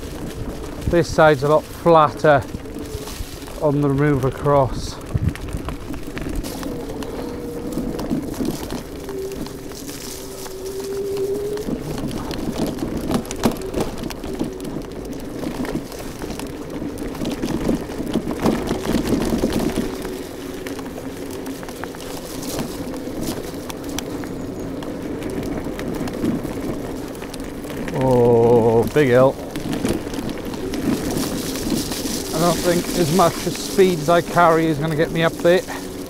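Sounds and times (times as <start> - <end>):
scooter rattling over stones: 0.0 - 36.0
tyres crunching on gravel: 0.0 - 36.0.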